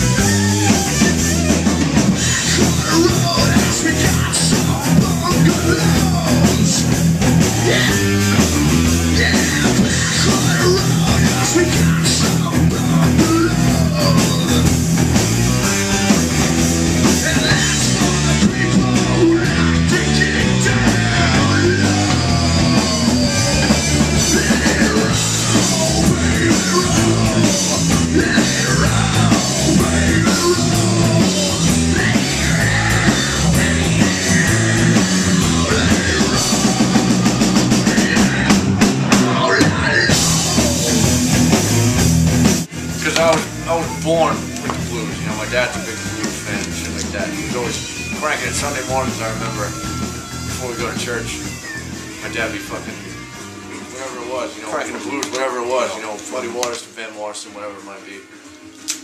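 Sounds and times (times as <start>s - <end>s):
loud rock music: 0.0s - 59.0s.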